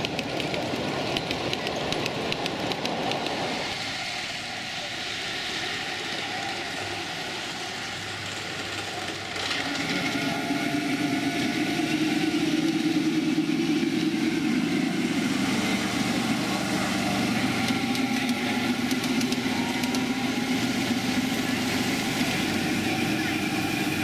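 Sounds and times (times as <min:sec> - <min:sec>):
locomotive engine: 0:00.0 - 0:24.0
railway cars rolling: 0:00.0 - 0:24.0
railway wheels clicking over rail joints: 0:00.0 - 0:24.0.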